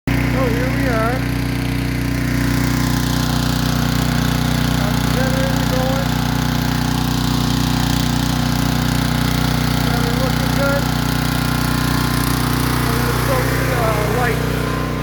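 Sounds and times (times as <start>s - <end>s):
small engine humming: 0.1s - 15.0s.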